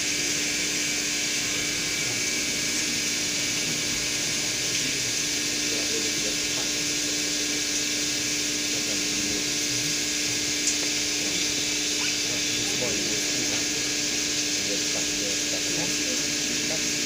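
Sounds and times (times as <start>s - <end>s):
coolant spray hiss: 0.0s - 17.0s
machine hum: 0.0s - 17.0s
milling machine cutting: 0.0s - 17.0s.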